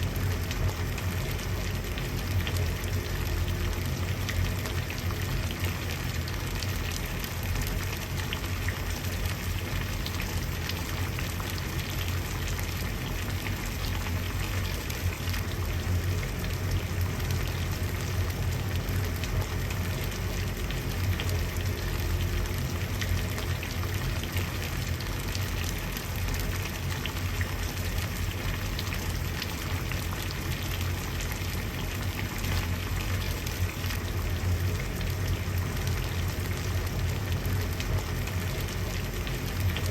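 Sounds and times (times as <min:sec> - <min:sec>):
water boiling and bubbling: 0:00.0 - 0:39.9.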